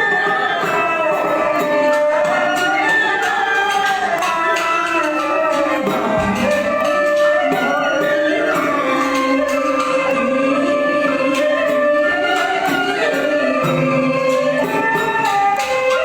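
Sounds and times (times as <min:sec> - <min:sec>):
clicking percussion beat: 0:00.0 - 0:16.0
folk opera singing: 0:00.0 - 0:16.0
traditional instrumental accompaniment: 0:00.0 - 0:16.0.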